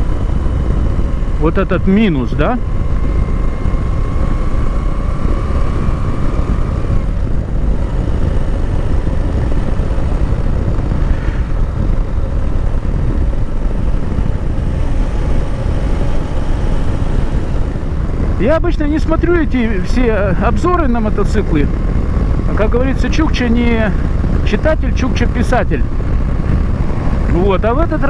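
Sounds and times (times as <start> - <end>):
faint thin whine: 0.0 - 28.0
motorcycle engine cruising: 0.0 - 28.0
wind rush on microphone: 0.0 - 28.0.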